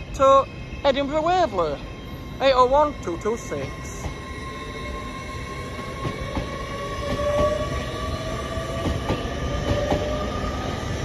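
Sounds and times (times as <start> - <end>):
electric train traction whine: 0.0 - 11.0
low train rumble: 0.0 - 11.0.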